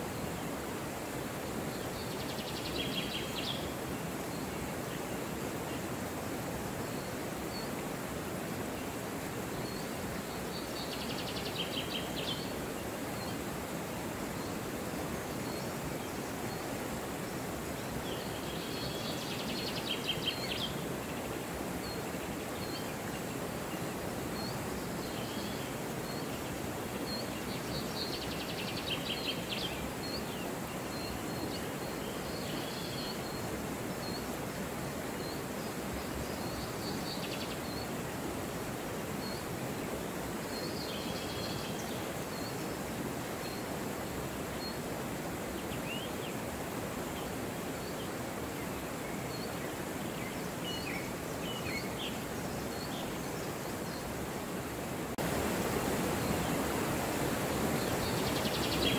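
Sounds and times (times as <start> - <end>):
river rushing over stones: 0.0 - 58.9.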